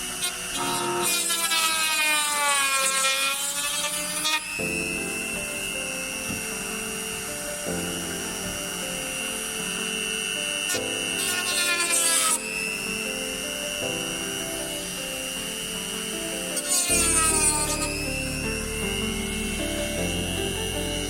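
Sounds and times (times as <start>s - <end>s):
background music: 0.0s - 21.0s
power tool whining: 0.0s - 21.0s.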